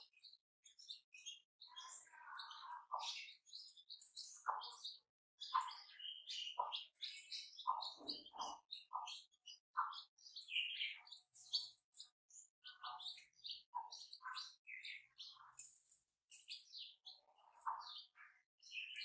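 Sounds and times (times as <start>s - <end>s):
chicks peeping: 0.8s - 12.0s, 12.6s - 18.1s.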